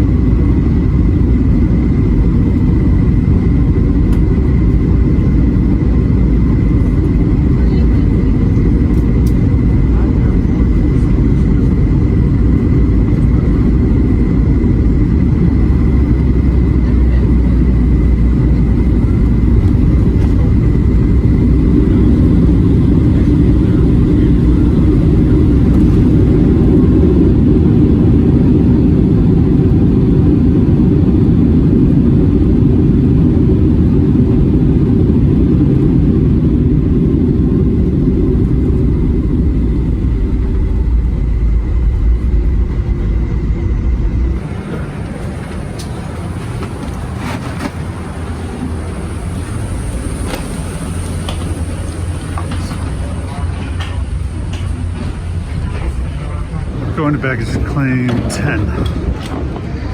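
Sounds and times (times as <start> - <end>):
jet engine and airflow rumble: 0.0 - 59.9.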